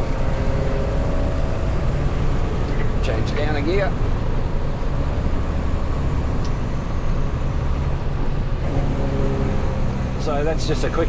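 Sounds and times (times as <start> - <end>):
diesel truck engine drone: 0.0 - 11.0
road and wind noise: 0.0 - 11.0.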